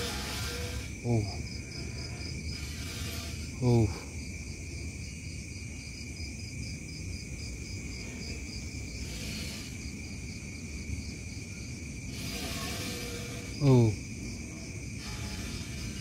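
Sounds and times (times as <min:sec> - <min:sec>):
night insects buzzing and chirping: 0:00.0 - 0:16.0.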